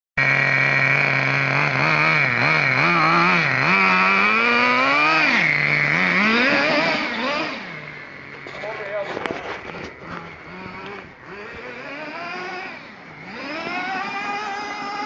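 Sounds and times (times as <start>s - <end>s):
small nitro engine revving: 0.2s - 15.0s.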